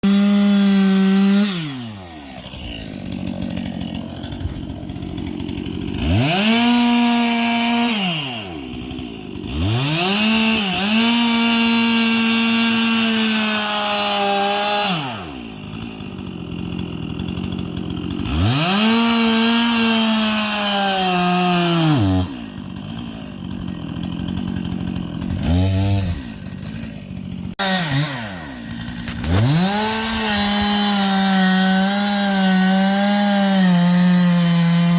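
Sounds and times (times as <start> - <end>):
chainsaw revving and idling: 0.0 - 34.9.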